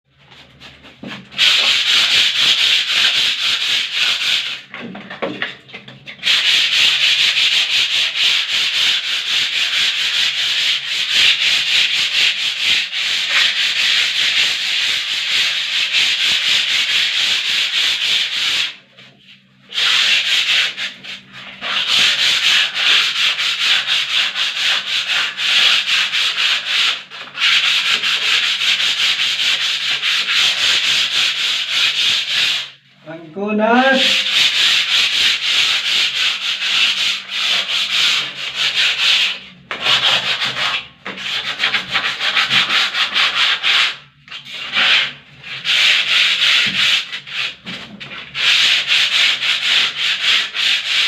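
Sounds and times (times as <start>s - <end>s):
sandpaper scraping on a wall: 0.2s - 32.8s, 33.8s - 51.0s.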